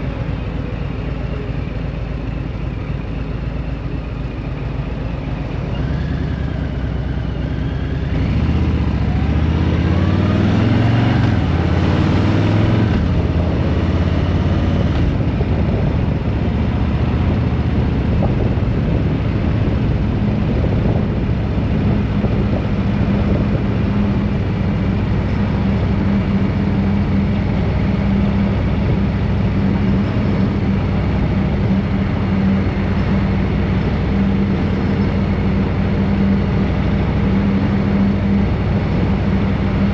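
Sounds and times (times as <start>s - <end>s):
vehicle engine accelerating: 0.0s - 39.9s.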